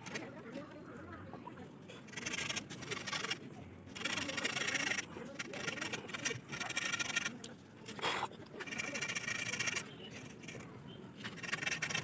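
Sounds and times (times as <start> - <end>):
knife blade scraping bamboo: 2.0 - 12.0.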